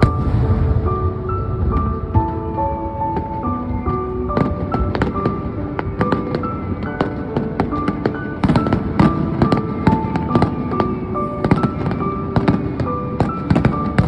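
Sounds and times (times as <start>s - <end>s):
fireworks bursting and crackling: 0.0s - 14.0s
music with held notes: 0.0s - 14.0s.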